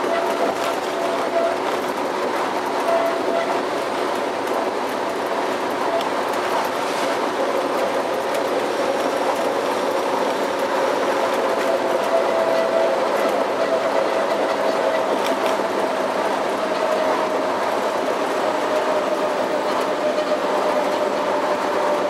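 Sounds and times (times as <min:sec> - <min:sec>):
locomotive whine: 0:00.0 - 0:22.0
wheels rolling on rail: 0:00.0 - 0:22.0.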